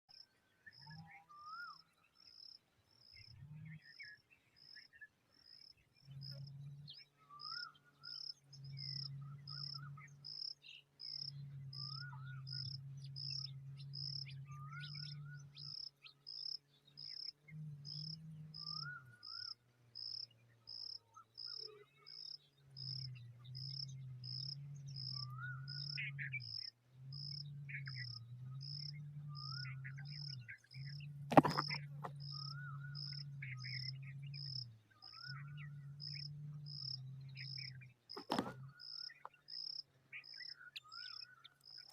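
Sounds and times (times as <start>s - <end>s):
low steady hum: 5.2s - 41.9s.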